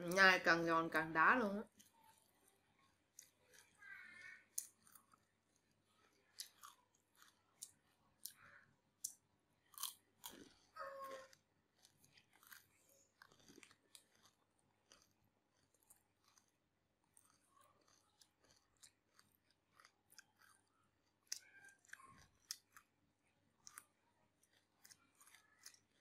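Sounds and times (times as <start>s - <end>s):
crunchy chewing: 1.6s - 26.0s.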